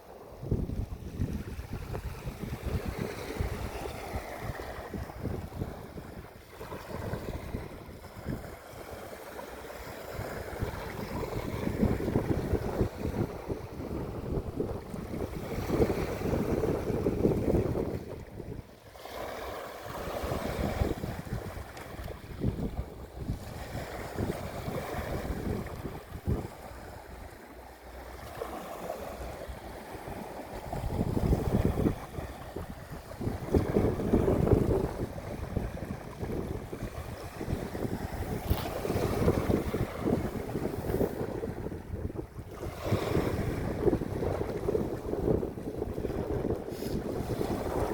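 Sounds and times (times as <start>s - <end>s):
ocean waves breaking: 0.0s - 47.9s
wind rumble on microphone: 0.0s - 47.9s.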